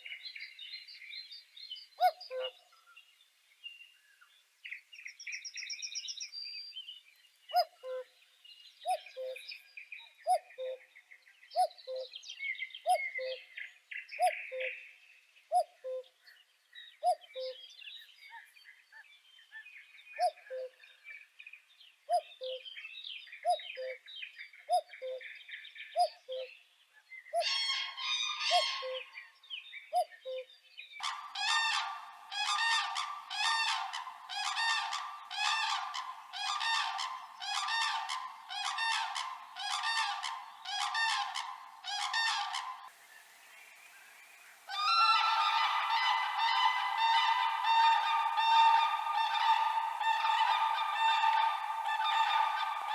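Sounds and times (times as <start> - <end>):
birds chirping and warbling: 0.0 - 3.1, 3.8 - 52.9.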